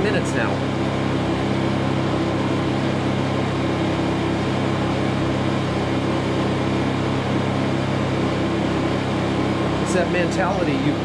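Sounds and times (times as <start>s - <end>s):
portable generators running: 0.0s - 11.0s.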